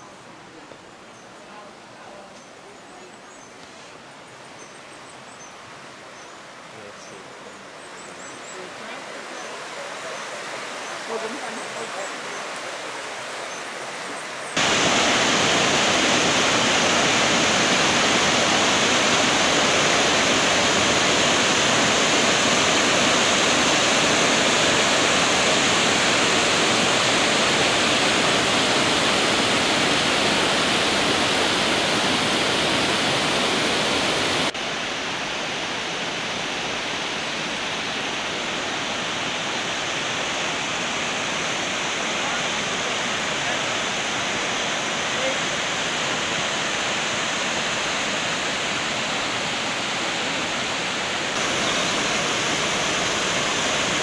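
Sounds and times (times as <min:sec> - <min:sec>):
waterfall rushing: 0:05.6 - 0:54.0.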